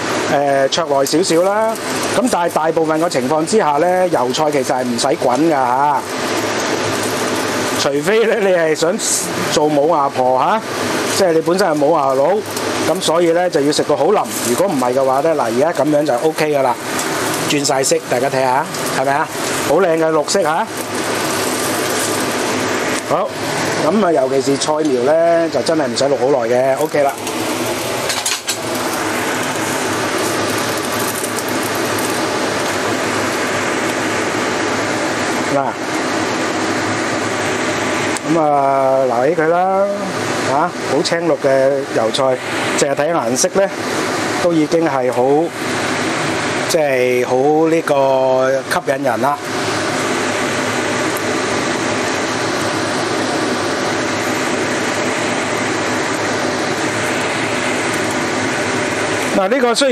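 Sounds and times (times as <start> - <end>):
gas burner rushing: 0.0 - 59.9
water boiling in a wok: 0.0 - 59.9.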